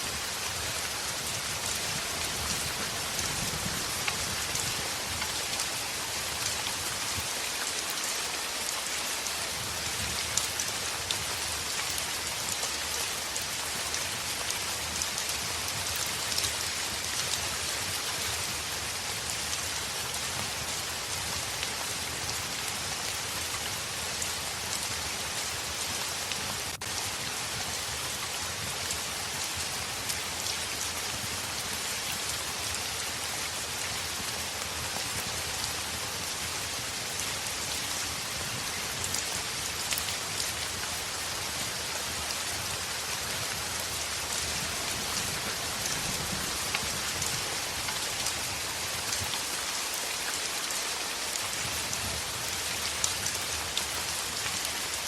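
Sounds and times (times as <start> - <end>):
heavy rain on a window: 0.0 - 55.0.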